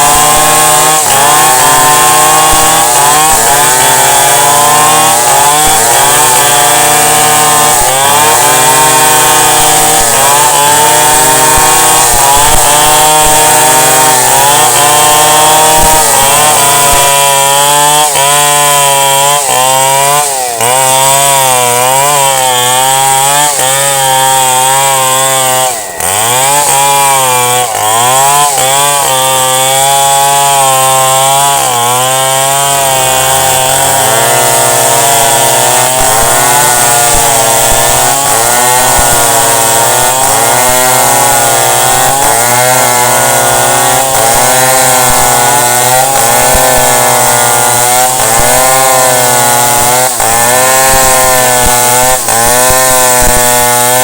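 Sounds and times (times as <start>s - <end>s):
chainsaw cutting a tree: 0.0s - 54.0s.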